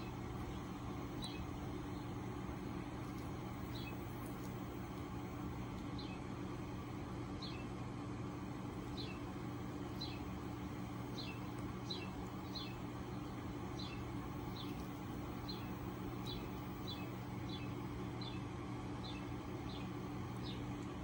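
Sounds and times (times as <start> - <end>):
small bird chirping: 0.0 - 2.3, 3.0 - 4.8, 5.8 - 6.3, 7.3 - 7.8, 8.8 - 20.8
steady low hum: 0.0 - 21.0.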